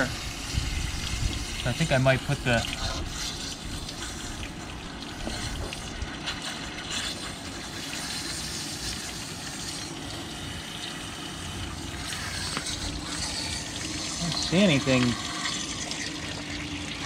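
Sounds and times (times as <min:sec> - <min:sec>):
water running out of engine: 0:00.0 - 0:17.0.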